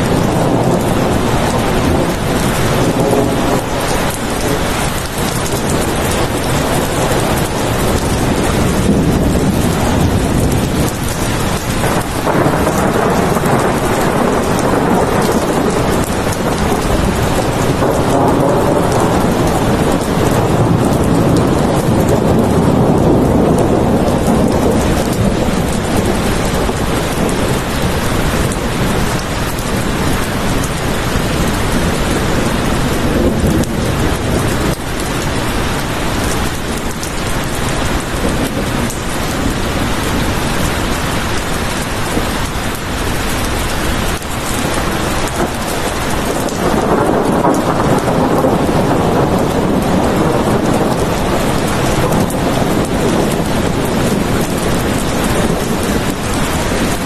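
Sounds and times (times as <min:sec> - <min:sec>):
heavy rain hissing: 0:00.0 - 0:57.0
low rumble of thunder: 0:00.0 - 0:57.0.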